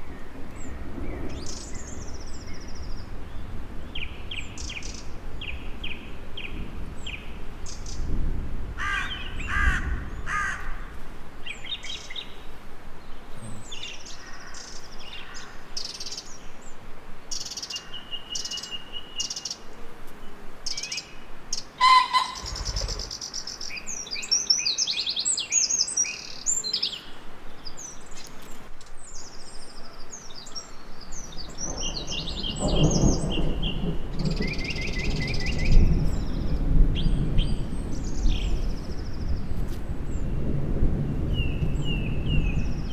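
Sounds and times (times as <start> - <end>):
songbirds chirping and trilling: 0.0 - 8.2, 8.8 - 42.9.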